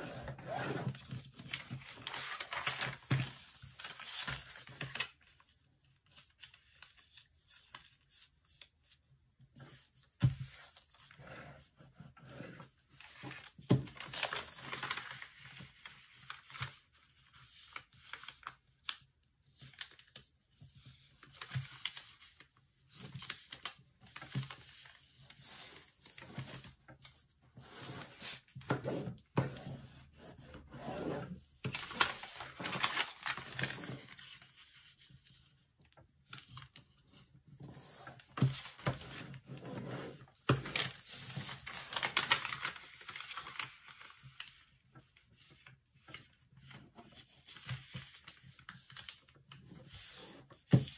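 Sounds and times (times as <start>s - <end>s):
paper rustling and crinkling: 0.0s - 50.9s.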